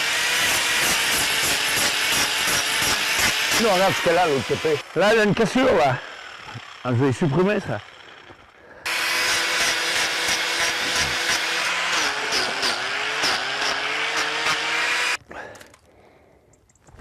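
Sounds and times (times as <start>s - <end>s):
angle grinder grinding hoof: 0.0s - 15.2s.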